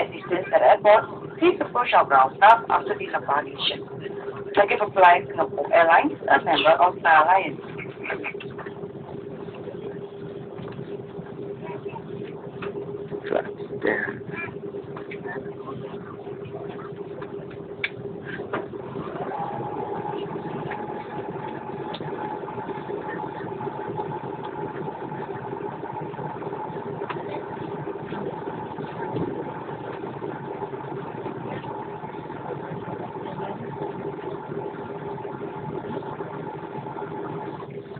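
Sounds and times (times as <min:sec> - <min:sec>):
aircraft cabin engine hum: 0:00.0 - 0:37.9
steady engine whine: 0:00.0 - 0:37.9.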